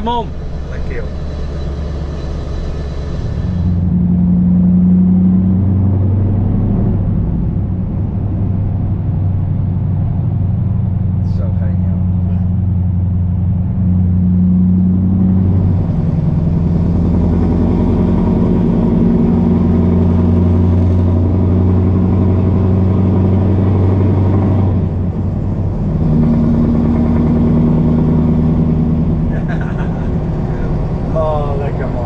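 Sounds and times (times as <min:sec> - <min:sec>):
diesel truck engine: 0:00.0 - 0:32.0.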